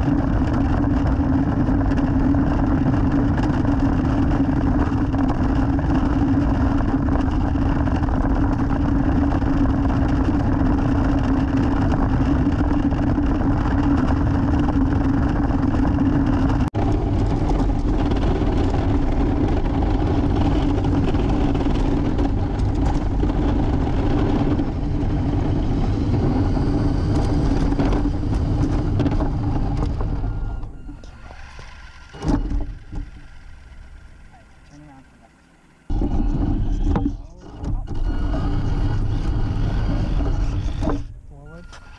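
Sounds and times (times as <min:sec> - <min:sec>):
electric motor and gear hum: 0:00.0 - 0:41.9.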